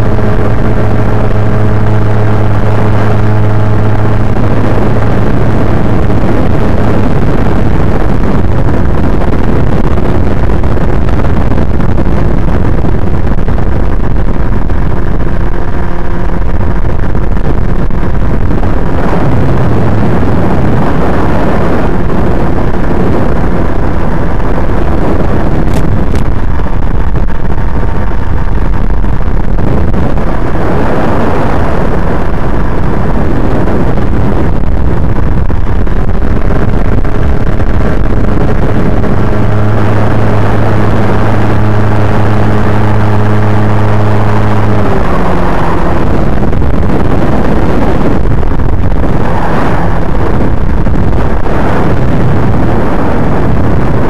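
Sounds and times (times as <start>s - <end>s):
electric motor and propeller buzzing: 0.0s - 54.0s
wind rushing: 0.0s - 54.0s.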